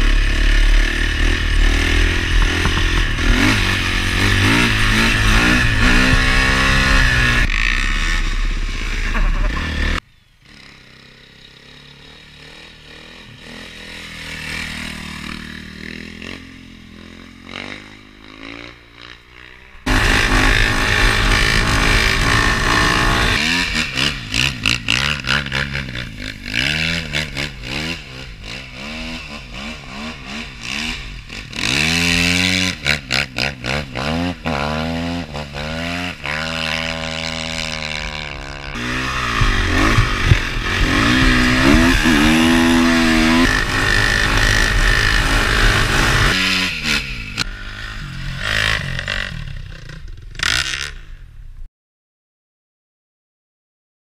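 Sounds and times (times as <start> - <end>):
dirt bike engine revving: 0.0 - 51.2.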